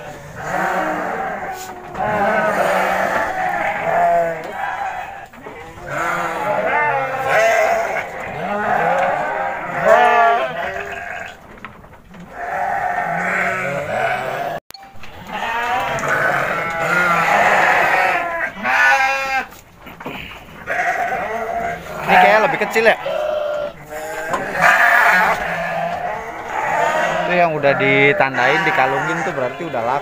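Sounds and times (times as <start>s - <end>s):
sheep bleating: 0.0s - 11.4s, 12.3s - 19.5s, 20.1s - 30.0s.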